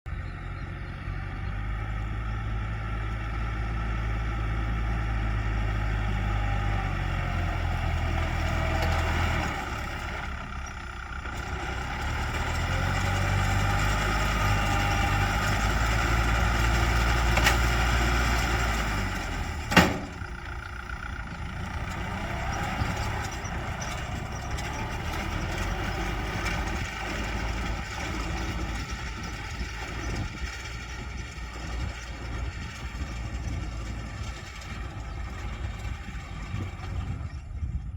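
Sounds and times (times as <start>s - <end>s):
diesel tractor engine: 0.0s - 37.9s
baler working: 1.3s - 37.4s.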